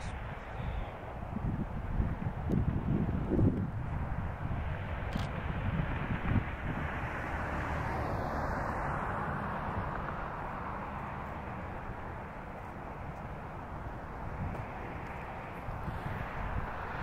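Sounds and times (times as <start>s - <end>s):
distant vehicle rumble and hiss: 0.0s - 17.0s.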